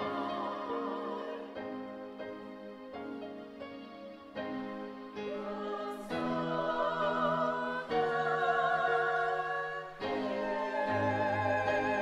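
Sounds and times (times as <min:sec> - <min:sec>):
choir singing soft chords: 0:00.0 - 0:12.0.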